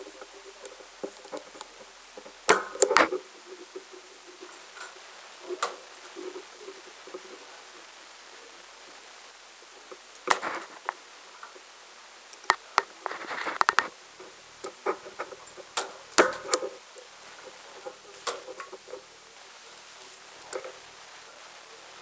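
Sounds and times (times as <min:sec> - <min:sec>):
rustling of wires: 0:00.0 - 0:22.0.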